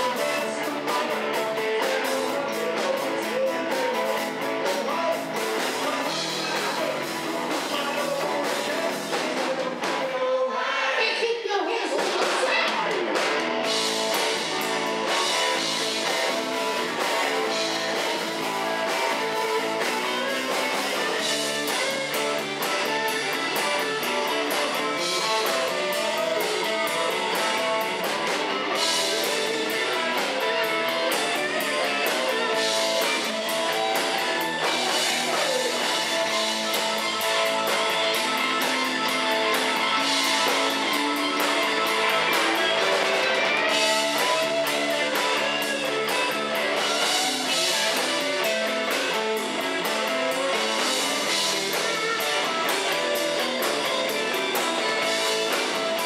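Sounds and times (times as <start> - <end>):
drum kit: 0.0 - 10.2, 11.7 - 56.0
electric guitar: 0.0 - 11.1, 11.7 - 56.0.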